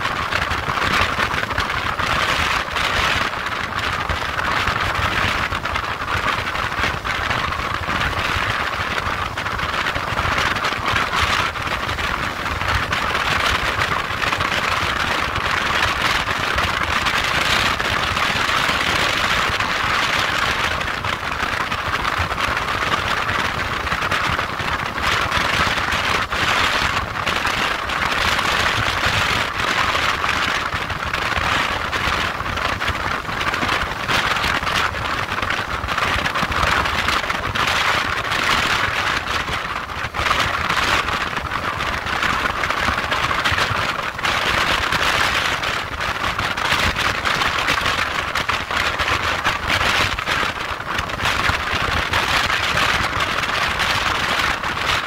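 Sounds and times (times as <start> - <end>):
rushing wind: 0.0 - 55.0.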